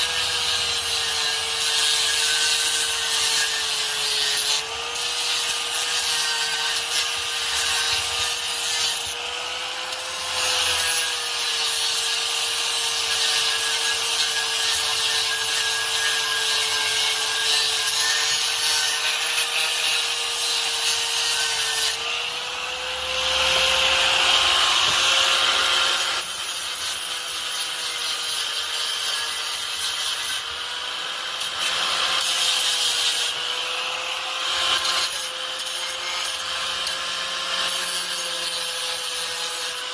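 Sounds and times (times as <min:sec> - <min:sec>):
power tool grinding metal: 0:00.0 - 0:39.9.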